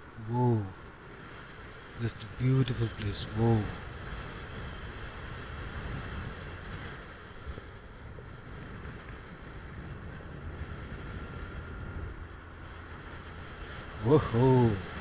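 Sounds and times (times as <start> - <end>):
wind and road noise rushing: 0.0 - 15.0.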